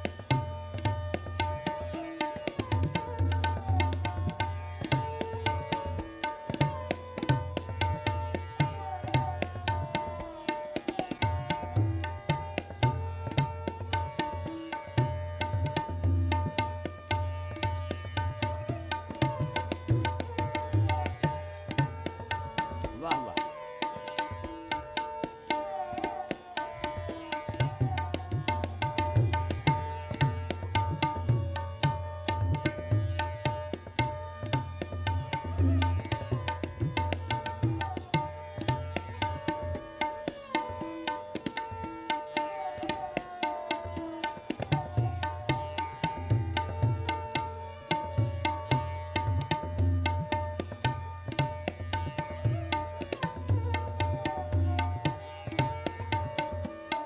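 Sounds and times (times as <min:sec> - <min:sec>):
sarangi melody with sliding notes: 0:00.0 - 0:57.0
tabla playing fast: 0:00.0 - 0:57.0.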